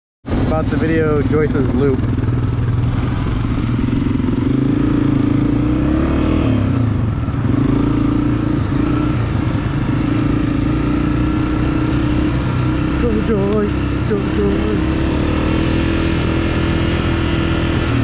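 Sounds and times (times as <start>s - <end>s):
dirt bike engine running: 0.3s - 18.0s.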